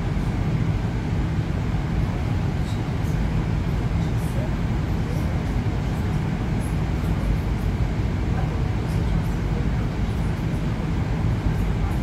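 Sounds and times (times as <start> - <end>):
metro train running: 0.0 - 12.0.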